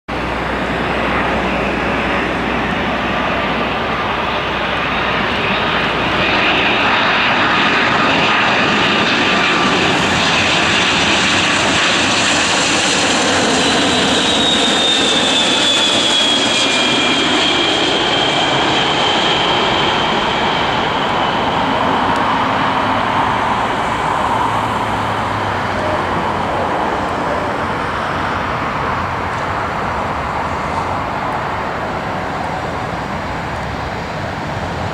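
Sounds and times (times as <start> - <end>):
jet engines rushing: 0.1 - 34.9.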